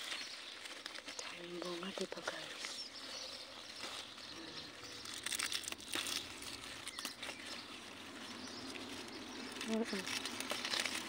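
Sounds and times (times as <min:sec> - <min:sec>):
plant leaves rustling: 0:00.0 - 0:11.0.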